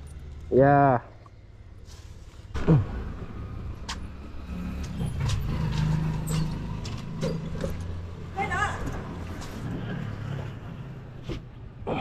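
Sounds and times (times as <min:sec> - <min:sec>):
low road rumble: 0:00.0 - 0:12.0.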